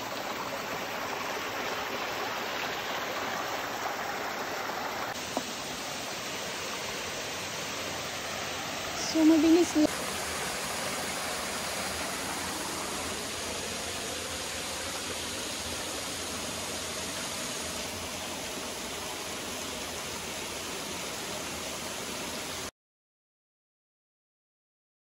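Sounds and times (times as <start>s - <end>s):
stream and small waterfall rushing: 0.0s - 22.7s.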